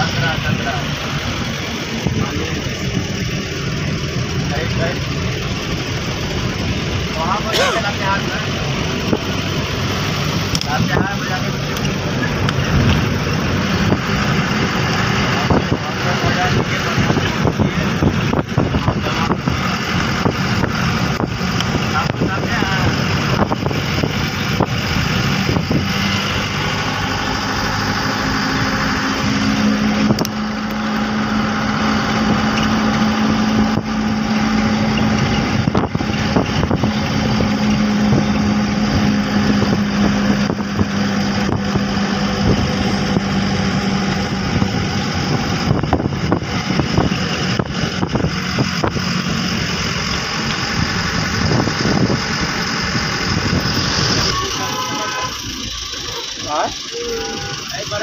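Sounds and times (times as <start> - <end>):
bus engine drone: 0.0 - 58.0
road noise rumble: 0.0 - 58.0.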